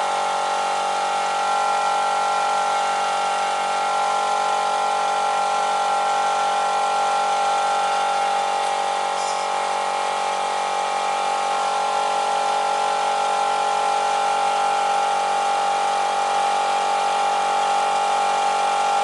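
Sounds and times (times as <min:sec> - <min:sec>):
electric motor hum: 0:00.0 - 0:19.0.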